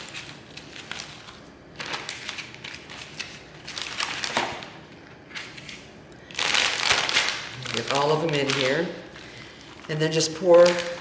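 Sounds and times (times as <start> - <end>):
plastic bag crinkling: 0.0 - 4.8, 5.4 - 11.0.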